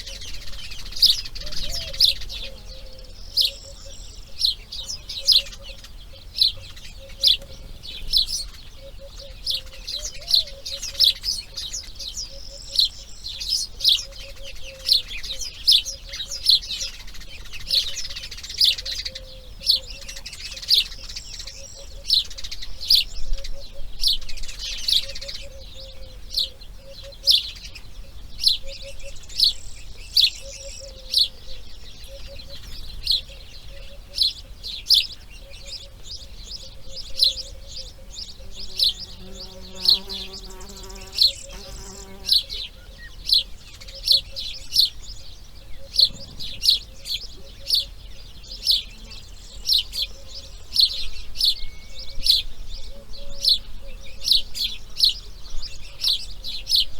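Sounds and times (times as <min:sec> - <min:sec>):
birds chattering: 0:00.0 - 0:56.9
birds chirping: 0:00.0 - 0:56.9.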